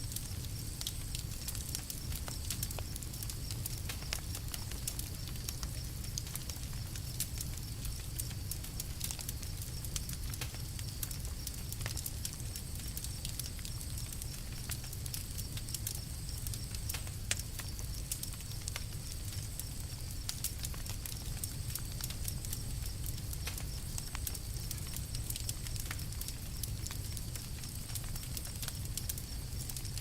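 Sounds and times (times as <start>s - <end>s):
campfire crackling: 0.0s - 30.0s
low rumble of burning fire: 0.0s - 30.0s.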